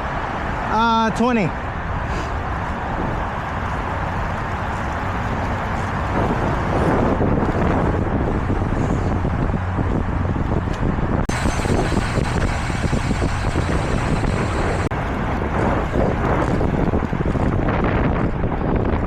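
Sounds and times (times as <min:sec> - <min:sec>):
highway traffic: 0:00.0 - 0:16.2
wind on microphone: 0:01.7 - 0:19.0.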